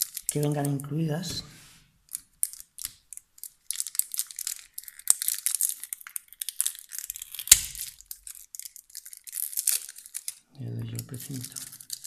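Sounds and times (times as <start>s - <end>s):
plastic wrap crinkling: 0.0s - 1.3s, 2.0s - 12.0s.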